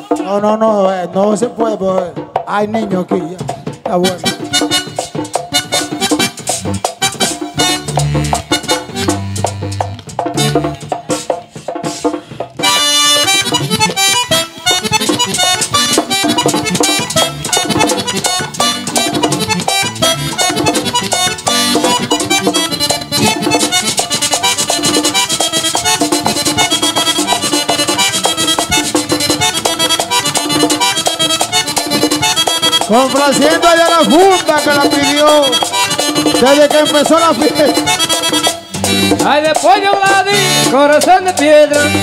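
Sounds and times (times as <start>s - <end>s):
tambora drum strokes: 0.0s - 42.0s
electric bass: 3.4s - 11.2s, 12.2s - 42.0s
button accordion fast runs: 3.9s - 42.0s.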